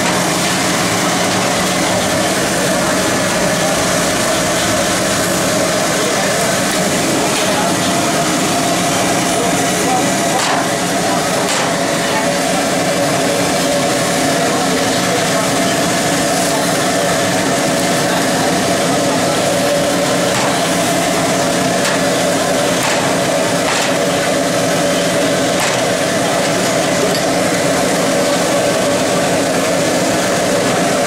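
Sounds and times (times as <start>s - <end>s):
machine hum: 0.0s - 31.0s
voices: 0.0s - 31.0s.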